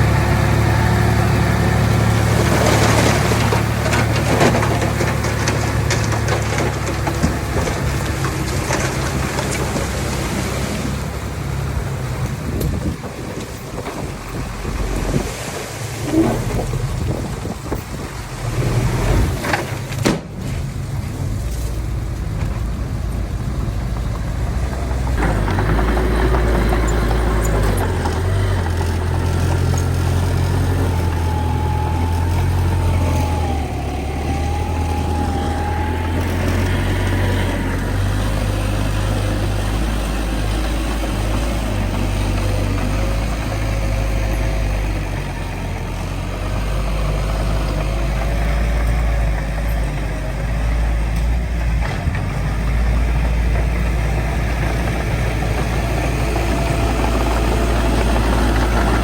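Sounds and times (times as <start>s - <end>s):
bulldozer diesel engine drone: 0.0s - 59.0s.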